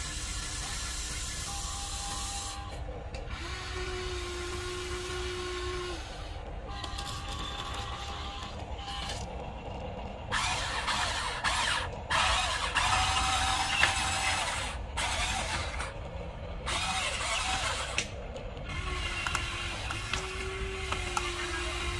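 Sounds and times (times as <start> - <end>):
electric motors whirring: 0.0 - 21.9.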